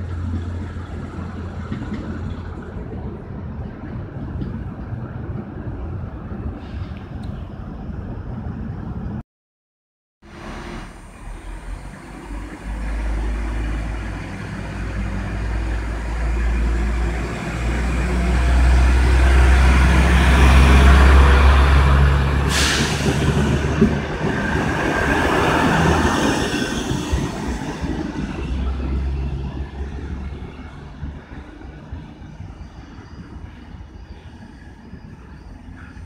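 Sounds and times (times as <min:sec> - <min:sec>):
diesel railbus engine drone: 0:00.0 - 0:09.2, 0:10.3 - 0:36.0.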